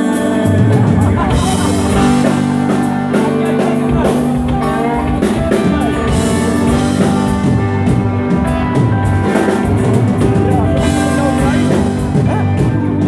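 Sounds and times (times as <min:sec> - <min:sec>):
live band dance music: 0:00.0 - 0:13.0.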